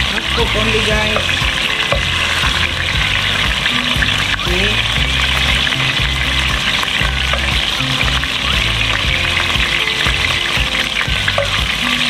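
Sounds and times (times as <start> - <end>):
background music with bass line: 0.0 - 12.0
liver frying in a pan: 0.0 - 12.0.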